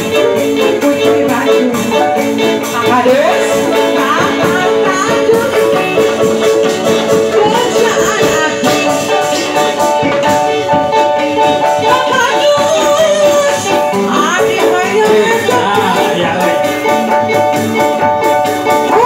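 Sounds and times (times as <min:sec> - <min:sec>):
sustained organ melody: 0:00.0 - 0:19.0.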